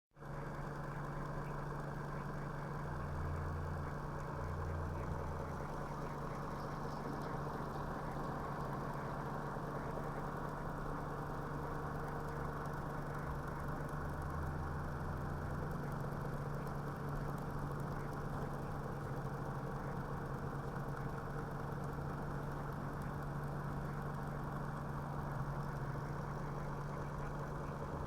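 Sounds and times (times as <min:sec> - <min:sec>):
motor-generator humming: 0:00.2 - 0:28.0.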